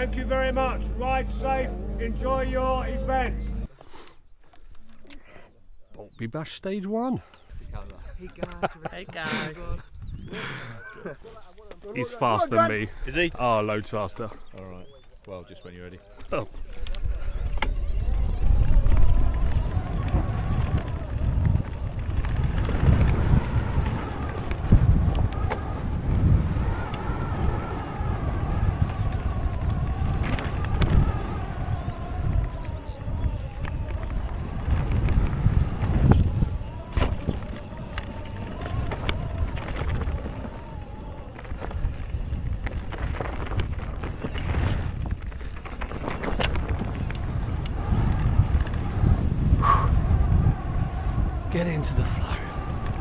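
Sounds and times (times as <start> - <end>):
bike tyre rumble on trail: 0.0 - 3.8, 9.8 - 53.0
wind buffeting microphone: 7.4 - 53.0.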